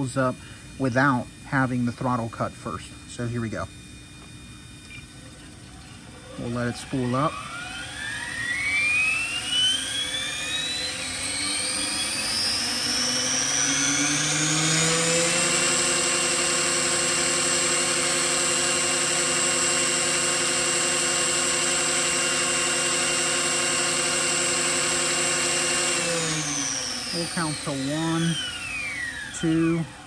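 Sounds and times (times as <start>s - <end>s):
electric helicopter motor whine: 0.0s - 30.0s.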